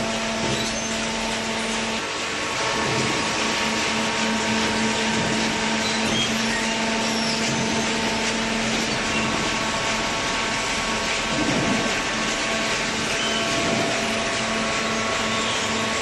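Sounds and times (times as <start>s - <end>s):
baler machine hum: 0.0s - 16.0s.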